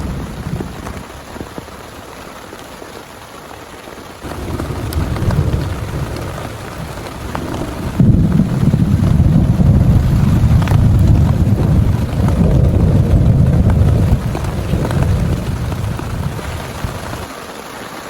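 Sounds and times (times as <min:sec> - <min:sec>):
thunder rumbling: 0:00.0 - 0:01.9, 0:04.2 - 0:17.3
heavy rain: 0:00.0 - 0:18.0.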